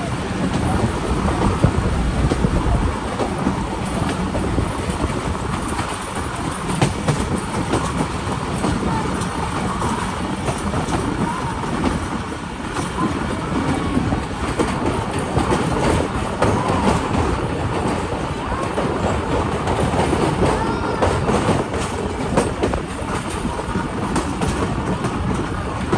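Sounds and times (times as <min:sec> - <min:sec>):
train wheels rumbling on rails: 0:00.0 - 0:25.9
wheels clicking over rail joints: 0:00.0 - 0:25.9.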